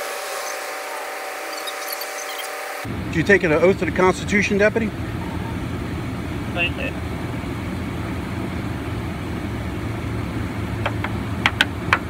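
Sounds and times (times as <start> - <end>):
car engine idling: 2.2 - 12.0.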